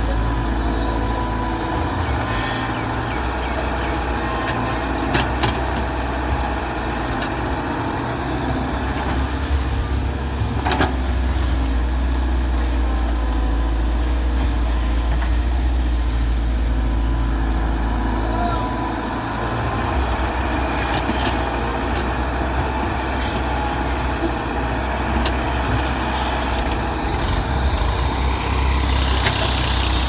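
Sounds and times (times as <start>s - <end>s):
diesel excavator engine running: 0.0s - 30.0s.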